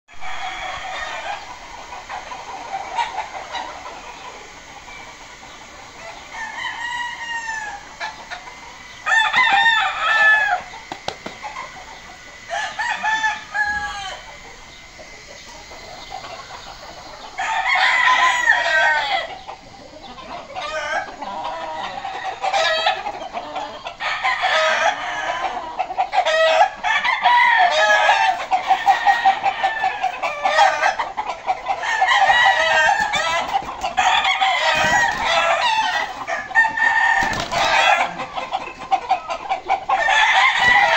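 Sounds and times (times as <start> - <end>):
roosters crowing: 0.1 - 40.9.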